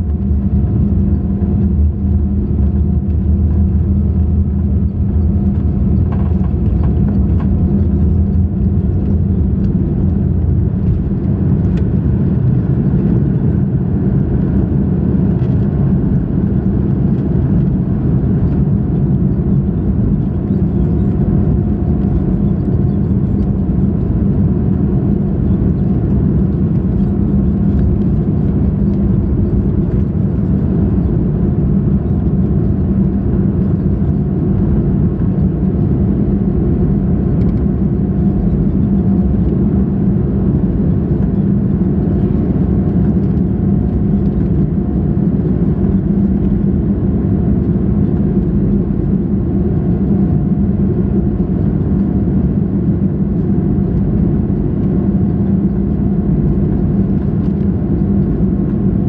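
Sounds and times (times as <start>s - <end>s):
deep runway rumble: 0.0s - 59.0s
jet engines rumbling: 0.0s - 59.0s.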